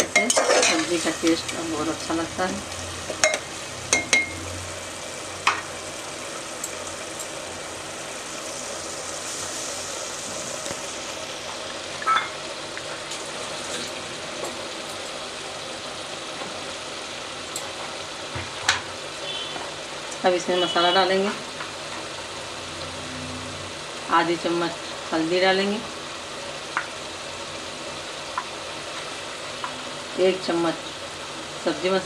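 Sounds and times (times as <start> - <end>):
masala frying in oil: 0.0 - 32.0.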